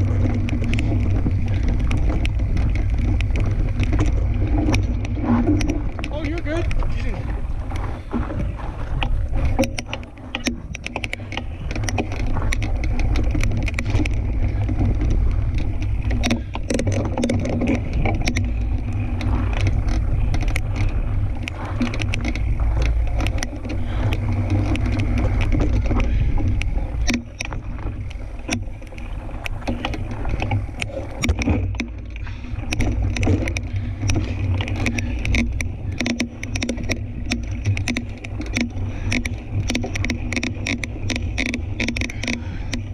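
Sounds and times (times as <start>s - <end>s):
bike clicks and rattles: 0.0s - 42.9s
tyres rumbling on dirt: 0.0s - 42.9s
wind buffeting microphone: 0.0s - 42.9s.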